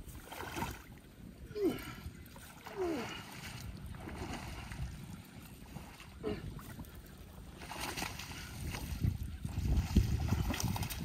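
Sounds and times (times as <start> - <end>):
water sloshing: 0.0 - 11.0
wind on microphone: 0.0 - 11.0.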